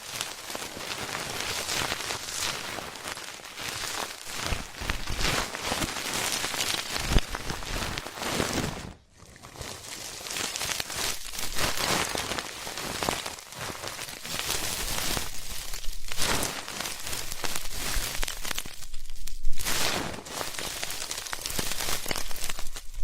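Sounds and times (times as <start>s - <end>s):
scratching and crackling at microphone: 0.0s - 23.0s.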